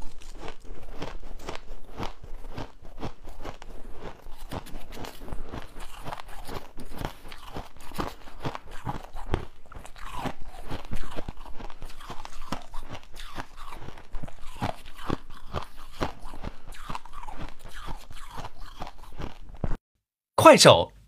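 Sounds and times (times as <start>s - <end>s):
chewing crushed ice: 0.0s - 19.8s.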